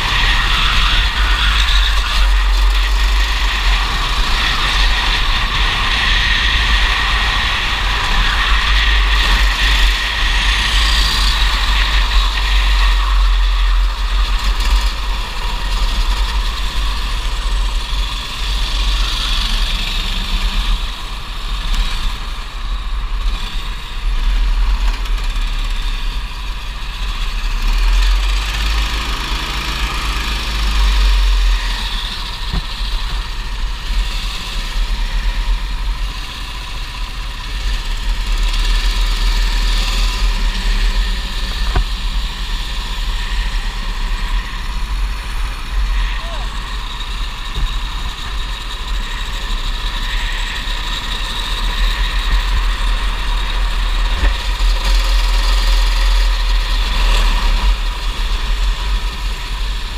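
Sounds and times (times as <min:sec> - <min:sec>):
kart engine running: 0:00.0 - 0:59.9
wind rumble on microphone: 0:00.0 - 0:59.9.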